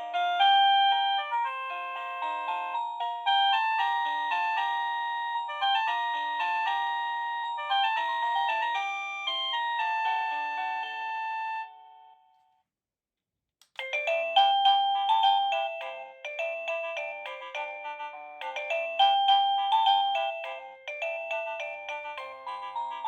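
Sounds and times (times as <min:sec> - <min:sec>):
doorbell chime melody: 0:00.0 - 0:12.3, 0:13.8 - 0:23.0.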